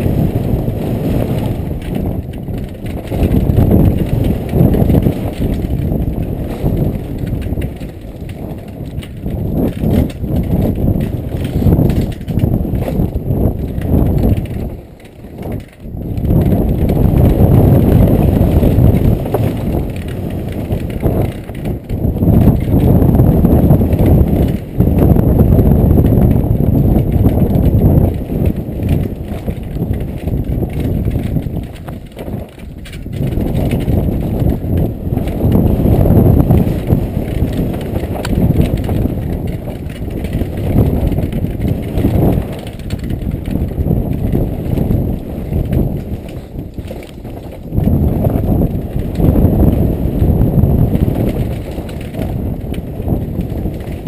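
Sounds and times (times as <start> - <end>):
bike tyres rumbling on dirt: 0.0 - 54.0
wind buffeting: 0.0 - 54.0
chain and frame rattling: 1.7 - 24.7, 27.2 - 49.4.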